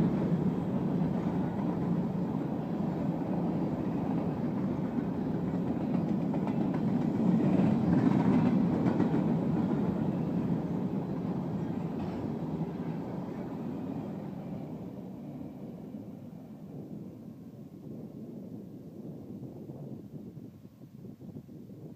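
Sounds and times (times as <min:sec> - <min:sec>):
freight train wheels rumbling on rails: 0:00.0 - 0:20.2.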